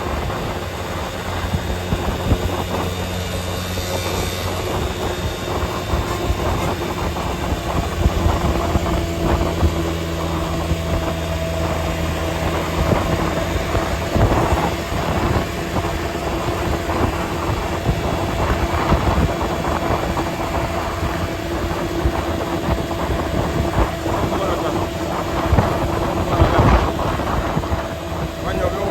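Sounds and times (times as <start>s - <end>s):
lower hum: 0.0s - 28.9s
road noise rush: 0.0s - 28.9s
vehicle engine hum: 0.0s - 28.9s.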